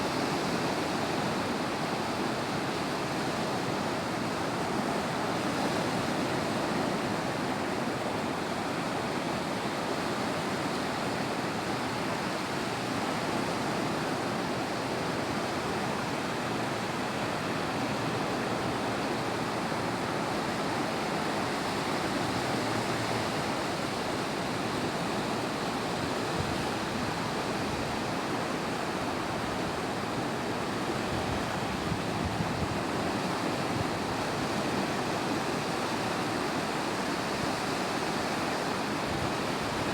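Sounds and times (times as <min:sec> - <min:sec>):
surf washing on a beach: 0:00.0 - 0:39.9.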